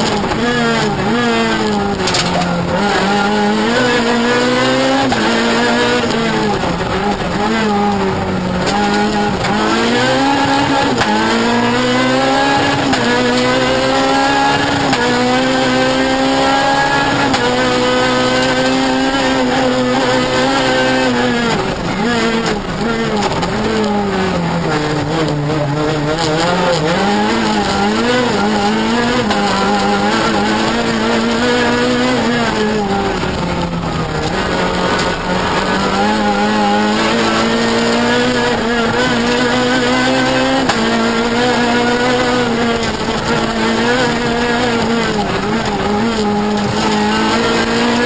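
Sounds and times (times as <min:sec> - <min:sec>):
rally car engine revving through gears: 0:00.0 - 0:48.0.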